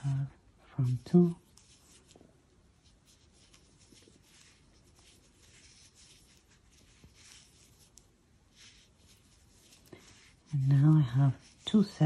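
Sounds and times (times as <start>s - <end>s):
crochet hook scratching yarn: 0.8s - 2.2s, 2.8s - 12.0s.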